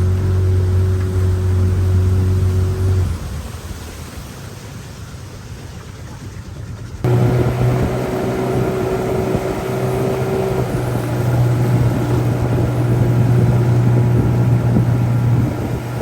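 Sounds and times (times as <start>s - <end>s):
outboard motor drone: 0.0s - 4.2s, 5.5s - 16.0s
dull rushing noise: 0.0s - 16.0s.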